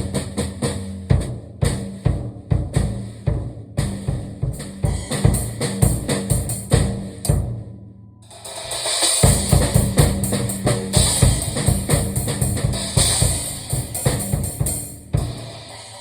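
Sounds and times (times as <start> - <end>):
drum kit played fast: 0.0 - 16.0.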